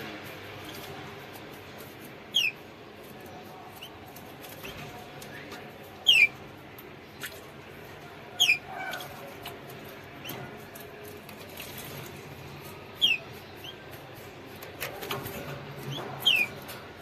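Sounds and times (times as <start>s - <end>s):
canary chirping: 0.5s - 17.0s.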